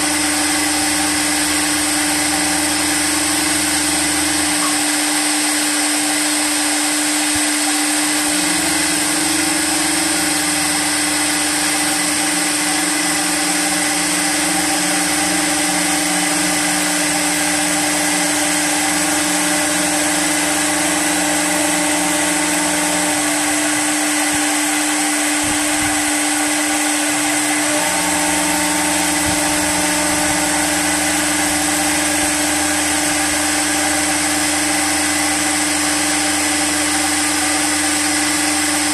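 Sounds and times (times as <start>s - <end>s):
lathe motors whining and humming: 0.0s - 38.9s.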